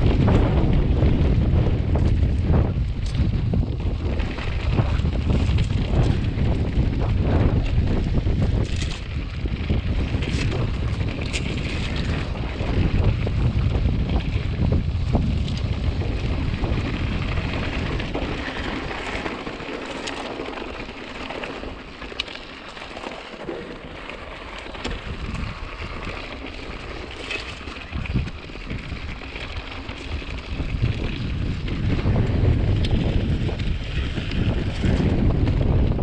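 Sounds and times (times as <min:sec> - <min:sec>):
bike clicks and rattles: 0:00.0 - 0:36.0
bike tyre noise: 0:00.0 - 0:36.0
wind buffeting microphone: 0:00.0 - 0:36.0.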